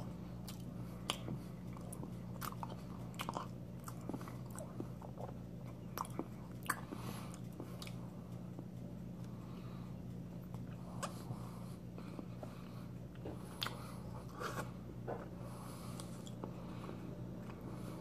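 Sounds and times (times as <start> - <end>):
chewing soft cake: 0.0 - 18.0.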